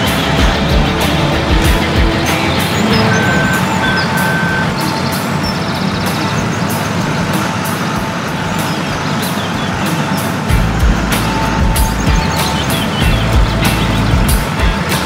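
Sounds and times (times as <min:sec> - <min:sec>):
birds chirping faintly: 0:00.0 - 0:15.0
diesel engine running: 0:00.0 - 0:15.0
reversing beeper: 0:01.6 - 0:14.3.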